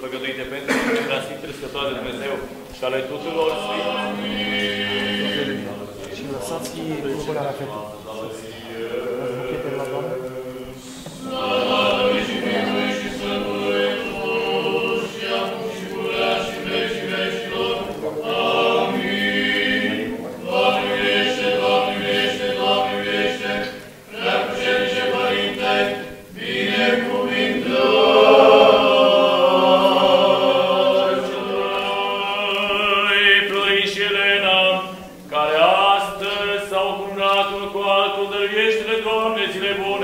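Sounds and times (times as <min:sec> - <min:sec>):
choir chanting: 0:01.8 - 0:40.0.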